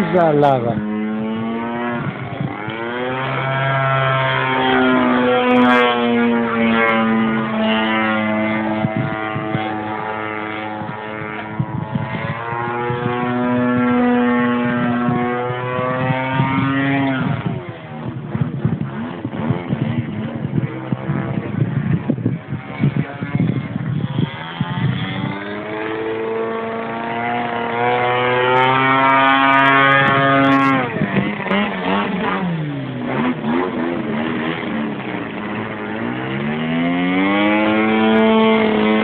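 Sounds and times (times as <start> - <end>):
model plane engine in flight: 0.0 - 39.0.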